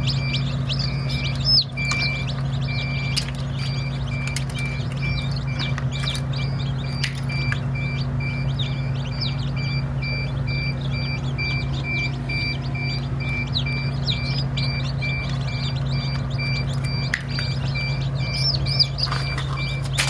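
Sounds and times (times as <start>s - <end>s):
chicks peeping: 0.0s - 20.0s
rapid electronic beeping: 0.0s - 20.0s
steady machine hum: 0.0s - 20.0s.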